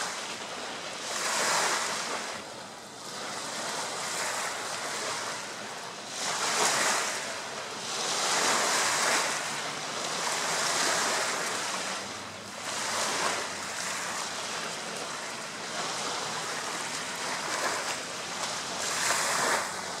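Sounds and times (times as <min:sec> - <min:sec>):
waves washing on pebbly beach: 0:00.0 - 0:20.0.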